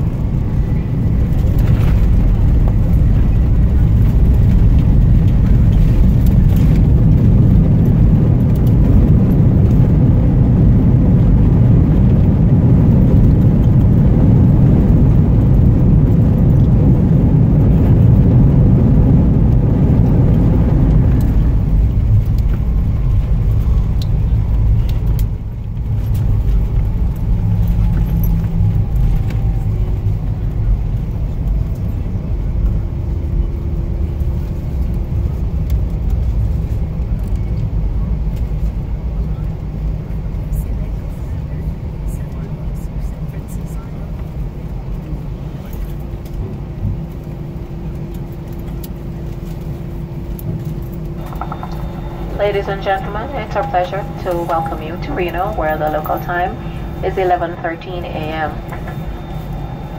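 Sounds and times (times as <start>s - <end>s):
airliner cabin roar: 0.0s - 59.9s
faint engine hum: 0.0s - 59.9s.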